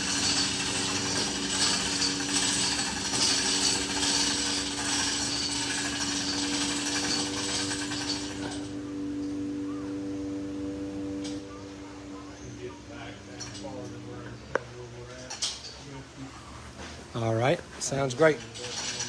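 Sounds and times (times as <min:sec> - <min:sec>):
steady hum: 0:00.0 - 0:18.6.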